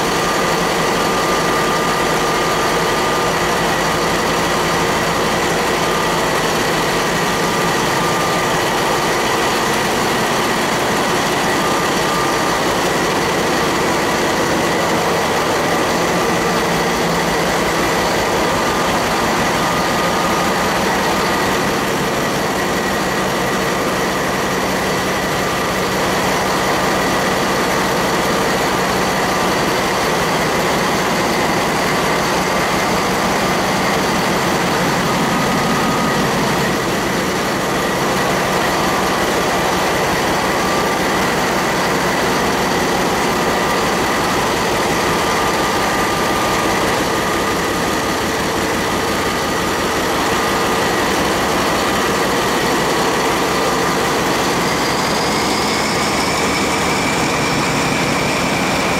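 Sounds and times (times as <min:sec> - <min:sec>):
diesel engine running: 0:00.0 - 0:58.9
steady high whine: 0:00.0 - 0:58.9.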